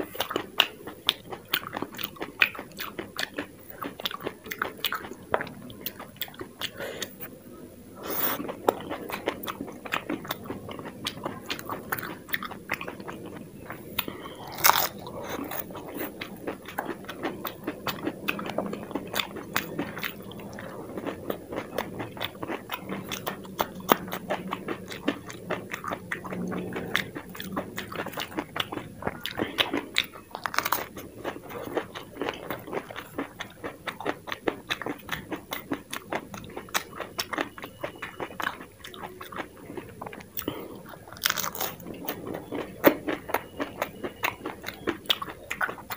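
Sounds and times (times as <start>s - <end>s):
crunching and chewing food: 0.0s - 45.9s.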